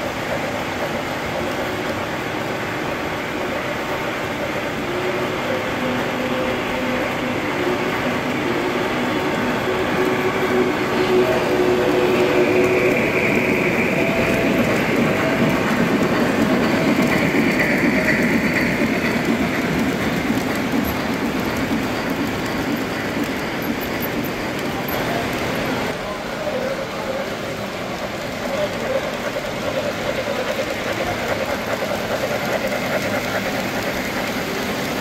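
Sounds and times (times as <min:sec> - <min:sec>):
model train rolling rumble: 0:00.0 - 0:35.0.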